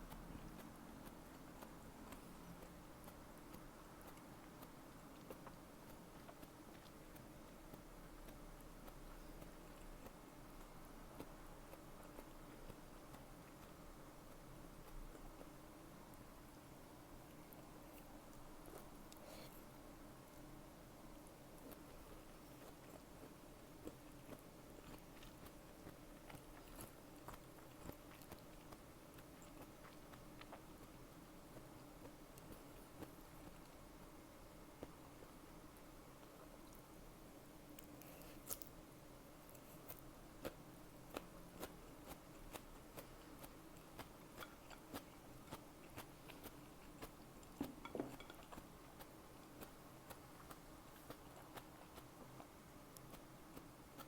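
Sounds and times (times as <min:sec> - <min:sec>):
faint crunchy chewing: 0:00.0 - 0:54.0.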